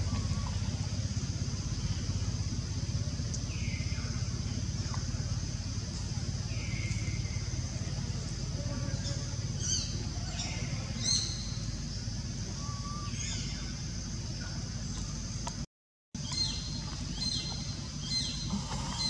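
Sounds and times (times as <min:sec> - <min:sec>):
high insect drone: 0:00.0 - 0:15.6, 0:16.2 - 0:19.0.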